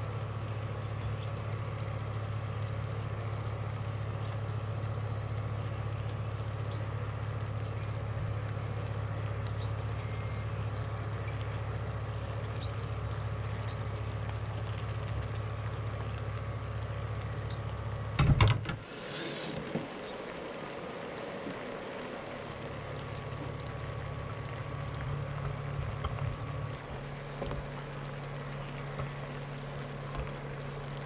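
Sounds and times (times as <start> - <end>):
sauce simmering in a pan: 0.0 - 18.2, 19.8 - 31.0
low electrical hum: 0.0 - 31.0.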